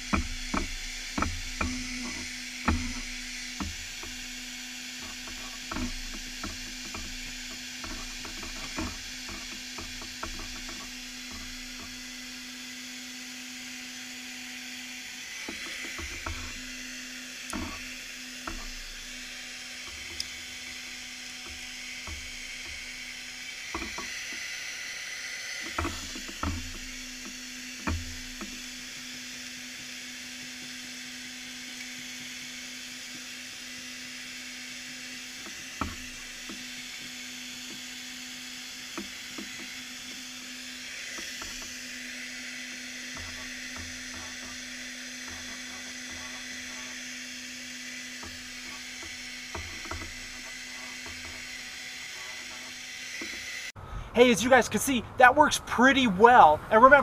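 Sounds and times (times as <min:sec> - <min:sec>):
hair dryer blowing: 0:00.0 - 0:53.8.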